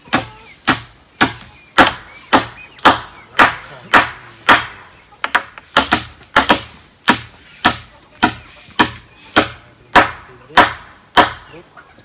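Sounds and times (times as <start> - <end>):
hammer nailing wood: 0.1 - 11.5.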